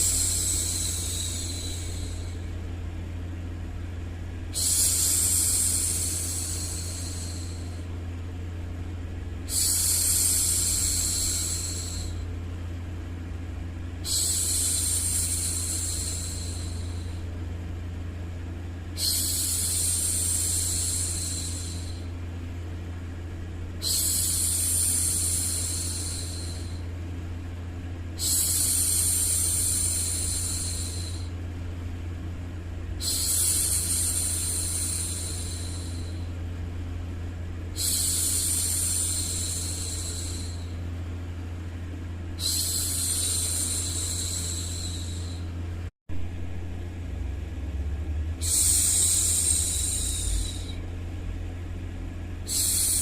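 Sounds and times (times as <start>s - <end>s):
low background hum: 0.0s - 53.0s.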